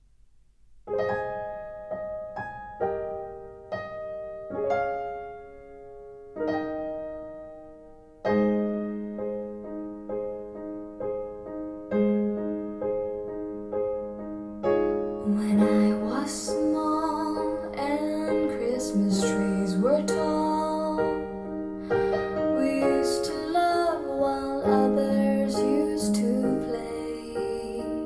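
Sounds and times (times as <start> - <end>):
gentle piano chords: 0.0 - 28.0.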